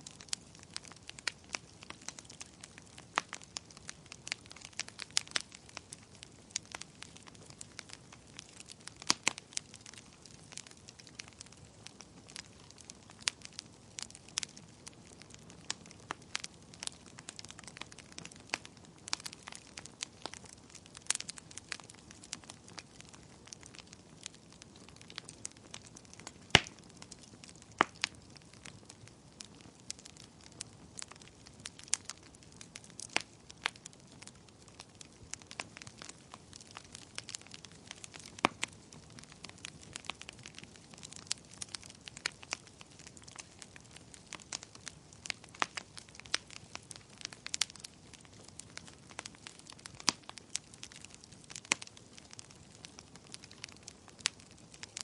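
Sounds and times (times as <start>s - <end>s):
fire crackling and popping: 0.0s - 55.0s
soft steady hiss: 0.0s - 55.0s.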